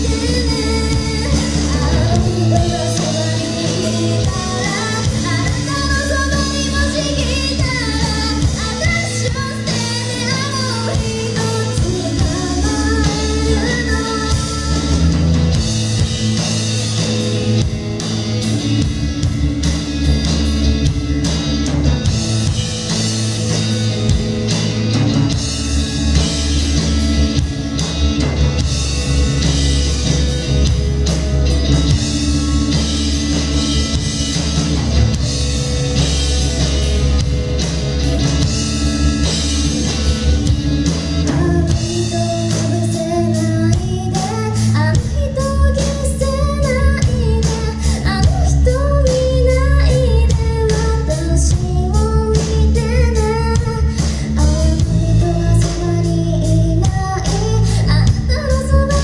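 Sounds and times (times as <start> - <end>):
drum kit: 0.0 - 59.0
guitar: 0.0 - 59.0
steady low notes: 0.0 - 59.0.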